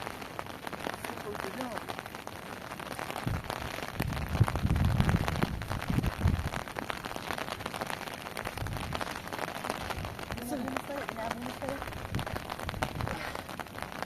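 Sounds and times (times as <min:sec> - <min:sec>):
heavy rain on tent roof: 0:00.0 - 0:14.0.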